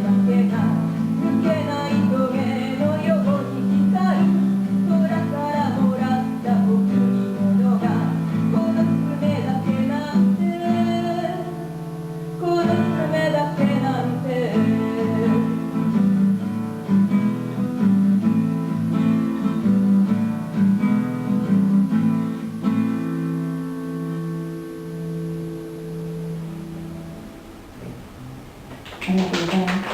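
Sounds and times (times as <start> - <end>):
acoustic guitar strumming: 0.0 - 28.7.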